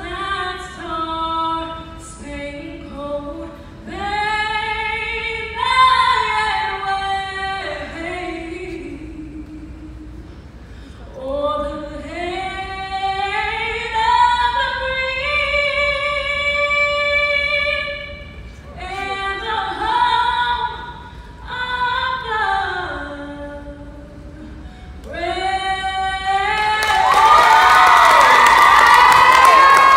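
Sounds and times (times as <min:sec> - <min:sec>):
woman singing unaccompanied: 0:00.0 - 0:10.4, 0:11.2 - 0:27.4.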